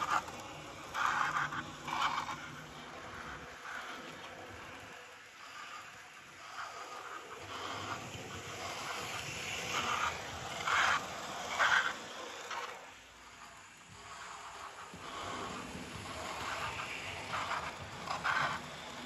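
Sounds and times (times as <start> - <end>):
model train rattling on rails: 0.0 - 19.0.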